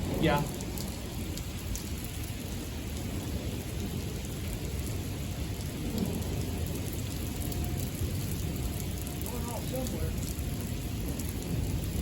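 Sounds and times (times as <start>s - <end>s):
low rumble of thunder: 0.0s - 12.0s
steady rain falling: 0.0s - 12.0s.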